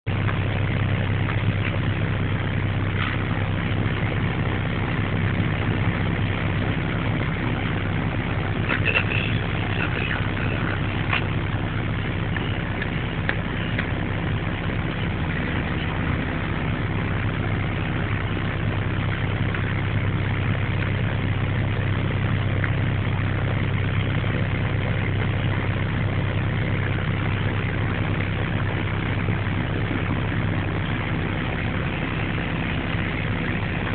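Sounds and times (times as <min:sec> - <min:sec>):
heavy engine idling: 0:00.0 - 0:33.9.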